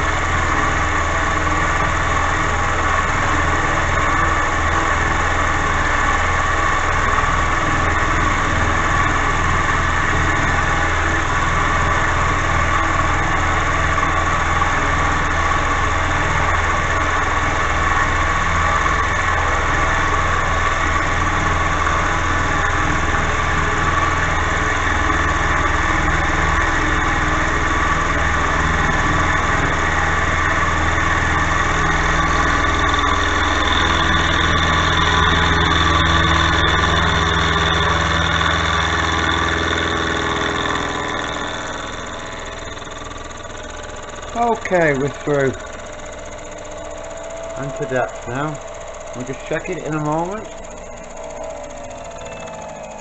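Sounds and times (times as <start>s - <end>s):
milling machine cutting steel: 0.0s - 53.0s.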